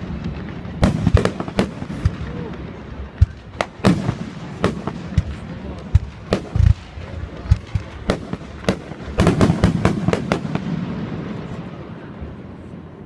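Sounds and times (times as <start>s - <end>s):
fireworks booming: 0.0s - 13.0s
fireworks crackling: 0.0s - 13.0s
sharp fireworks reports: 0.0s - 13.0s.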